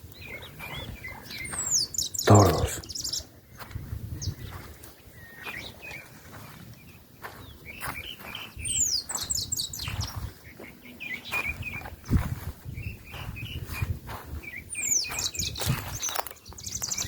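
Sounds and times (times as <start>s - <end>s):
birds chirping and whistling: 0.1s - 17.0s.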